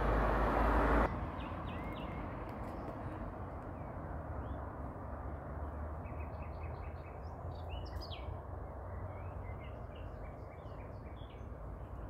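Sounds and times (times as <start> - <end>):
songbirds singing: 1.1 - 12.0.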